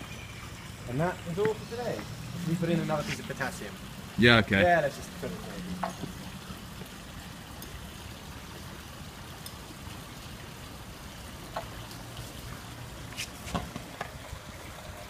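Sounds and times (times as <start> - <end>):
water trickling over waterfall: 0.0 - 15.0.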